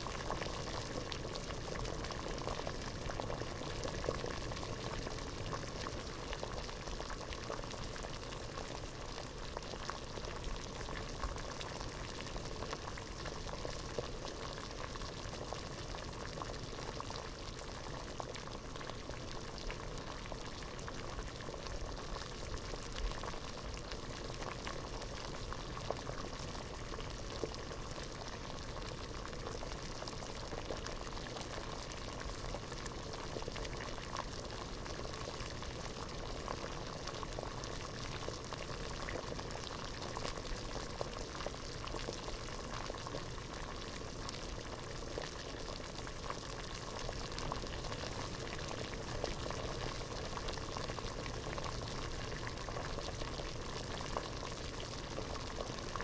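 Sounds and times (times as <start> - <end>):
water boiling in a pot: 0.0 - 56.0.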